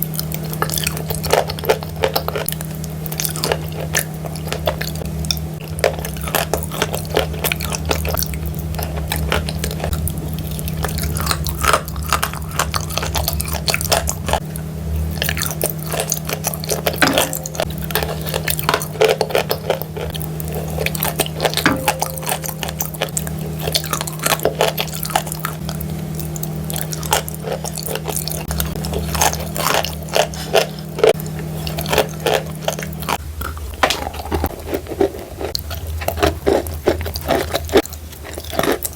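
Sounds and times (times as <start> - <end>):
chalk crunching while chewed: 0.0 - 38.9
steady low hum: 0.0 - 38.9.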